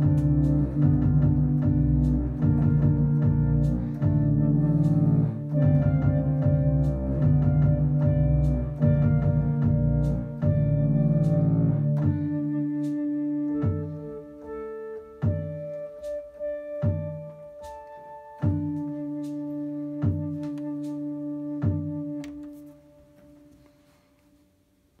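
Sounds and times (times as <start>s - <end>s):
synthesizer flute-like melody: 0.0s - 24.1s.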